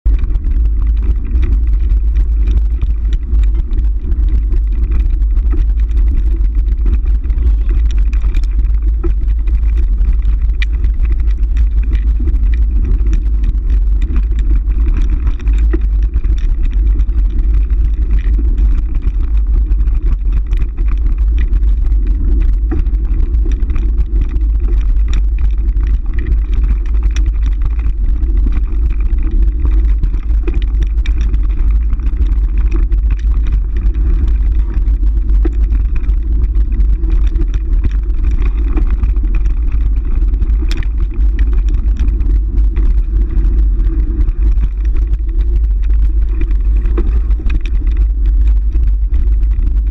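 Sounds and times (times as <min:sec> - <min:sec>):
wind rumble on microphone: 0:00.0 - 0:49.9
small knocks and rattles: 0:00.1 - 0:49.9.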